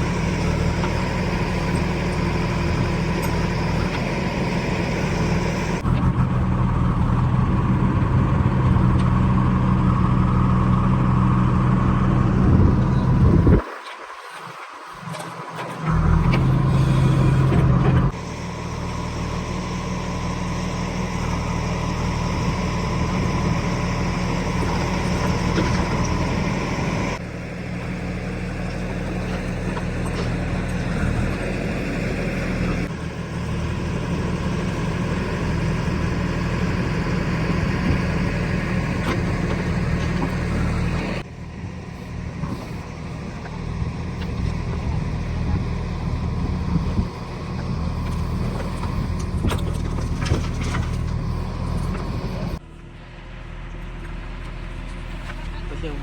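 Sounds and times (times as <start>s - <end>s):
heavy diesel engine running: 0.0s - 13.6s, 14.7s - 56.0s.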